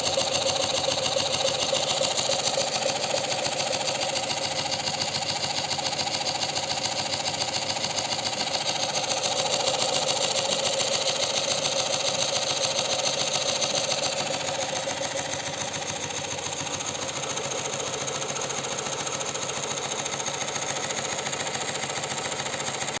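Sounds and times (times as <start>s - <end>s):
small engine clattering: 0.0s - 23.0s.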